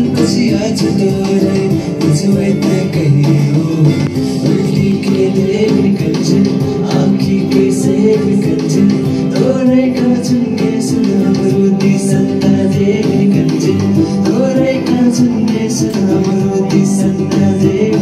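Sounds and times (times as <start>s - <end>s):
song with singing over beat: 0.0s - 18.0s.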